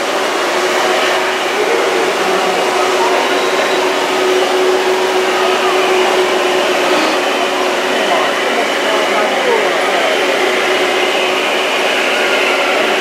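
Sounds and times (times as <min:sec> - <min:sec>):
faint murmur of voices: 0:00.0 - 0:13.0
steady rushing noise: 0:00.0 - 0:13.0.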